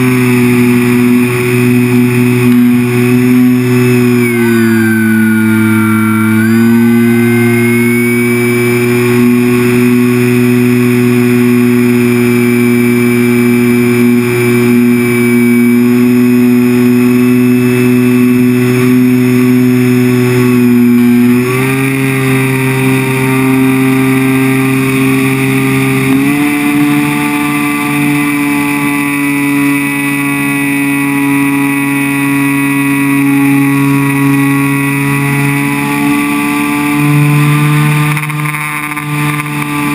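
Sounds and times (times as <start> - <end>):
muffled electric motor and propeller drone: 0.0 - 39.9.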